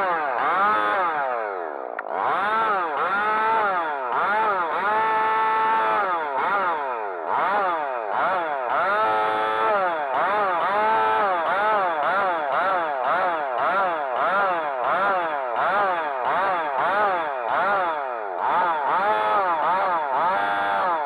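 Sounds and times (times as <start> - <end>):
chainsaw cutting into stump: 0.0 - 21.0.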